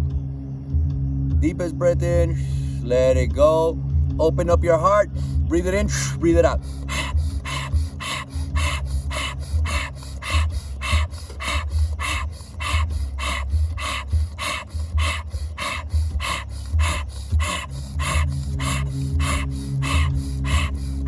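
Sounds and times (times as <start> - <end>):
fast rhythmic breathing: 2.2 - 2.9, 4.8 - 21.0.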